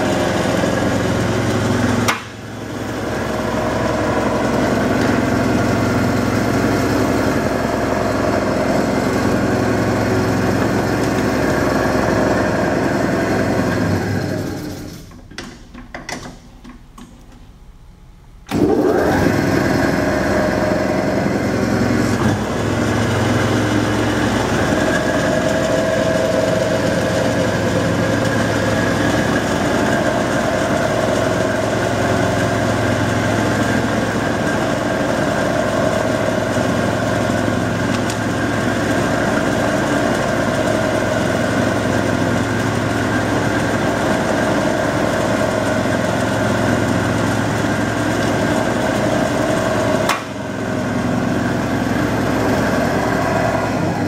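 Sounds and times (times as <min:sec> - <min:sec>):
metal lathe motor humming: 0:00.0 - 0:14.9, 0:18.5 - 0:54.0.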